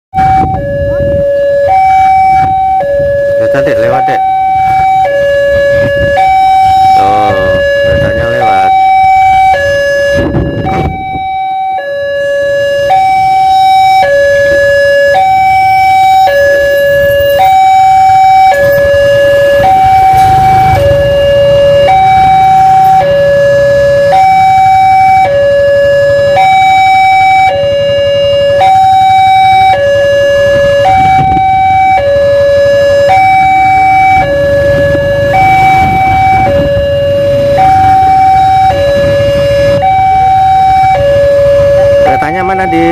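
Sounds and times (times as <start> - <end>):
level crossing two-note alarm: 0.2 - 42.9.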